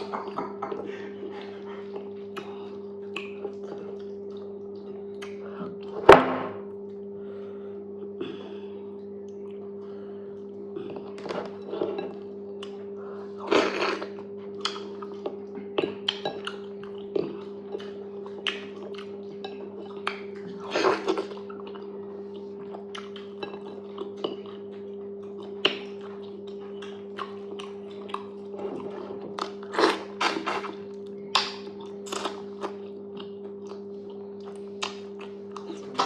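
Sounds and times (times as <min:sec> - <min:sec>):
wet mouth eating sounds: 0:00.0 - 0:06.0, 0:10.4 - 0:36.0
steady low hum: 0:00.0 - 0:36.0.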